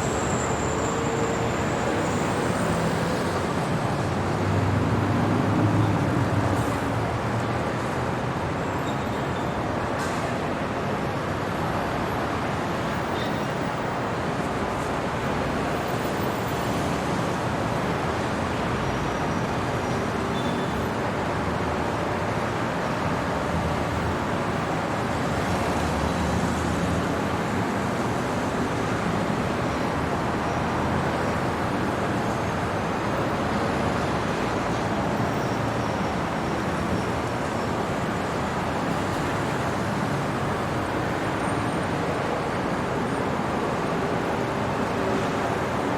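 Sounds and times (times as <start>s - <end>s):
city traffic hum: 0.0s - 45.9s.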